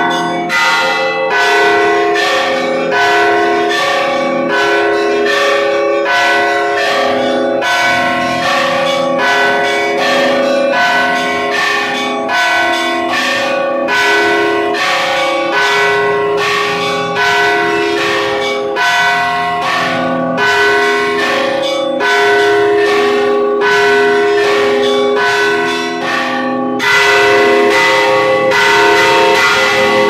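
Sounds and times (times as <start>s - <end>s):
church bells pealing: 0.0s - 30.0s.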